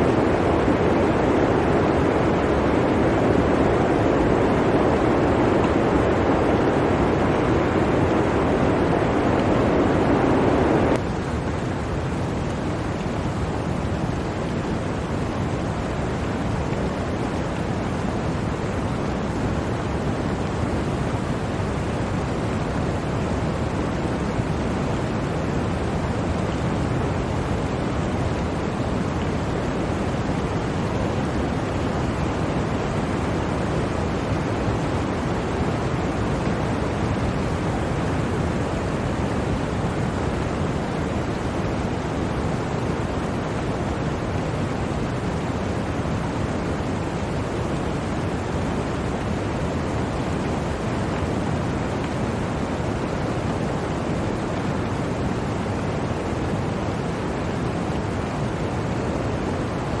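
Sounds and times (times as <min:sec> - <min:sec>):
blizzard wind rushing: 0:00.0 - 1:00.0.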